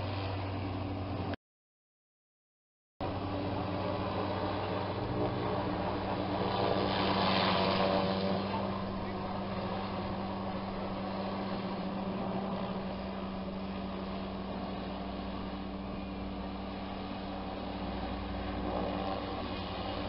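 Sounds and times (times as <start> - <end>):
airship engines droning: 3.0 - 20.0.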